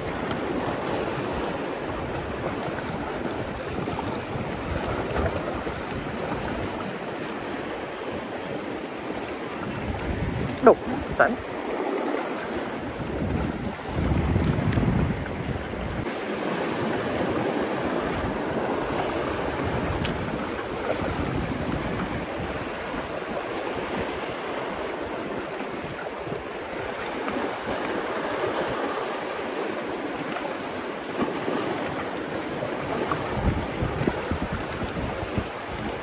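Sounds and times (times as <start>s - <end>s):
sea surf washing on shore: 0.0s - 36.0s
wind on microphone: 0.0s - 36.0s.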